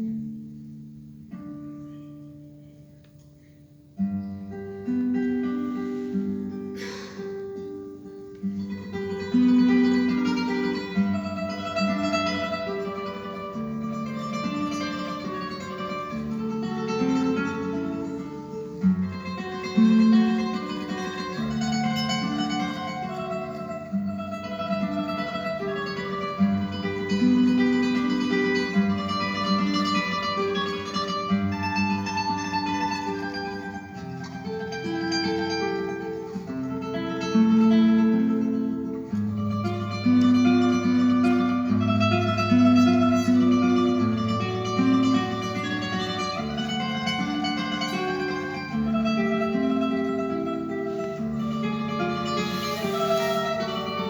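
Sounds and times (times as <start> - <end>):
classical guitar tremolo: 0.0 - 54.0.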